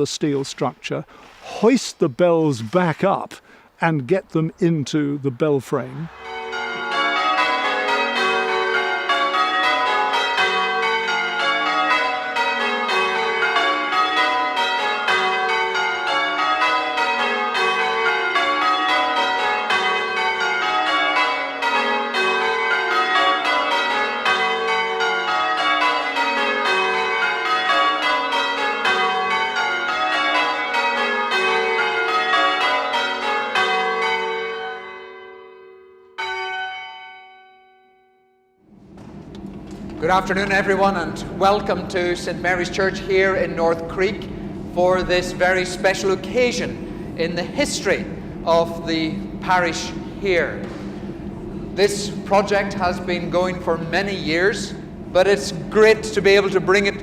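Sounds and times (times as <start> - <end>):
church bells ringing changes: 0.0 - 57.0.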